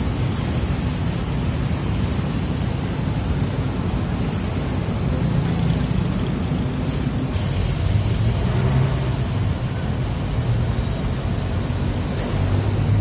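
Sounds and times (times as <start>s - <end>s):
construction machinery engines: 0.0s - 13.0s
road traffic rumble: 0.0s - 13.0s.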